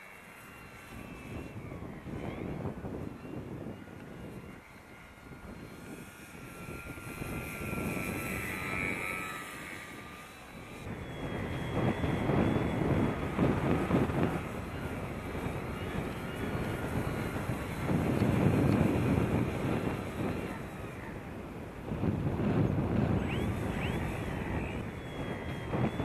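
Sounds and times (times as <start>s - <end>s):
electric propeller whining: 0.0s - 26.0s
wind buffeting microphone: 0.0s - 26.0s.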